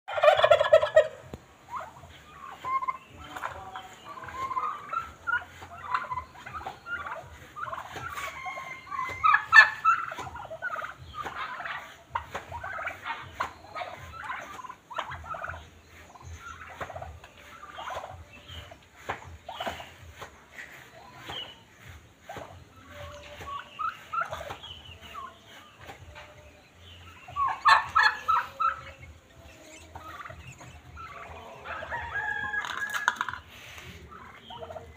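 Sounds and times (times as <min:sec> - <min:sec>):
turkeys gobbling: 0:00.1 - 0:34.9.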